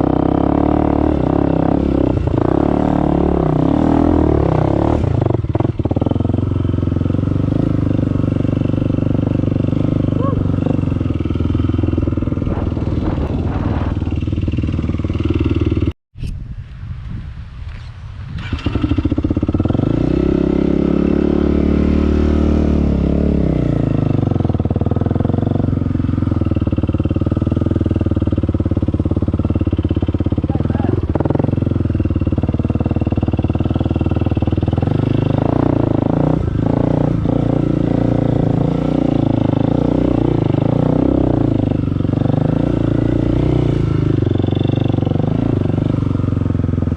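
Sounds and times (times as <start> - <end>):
dirt bike engine running: 0.0 - 16.0, 18.4 - 46.9.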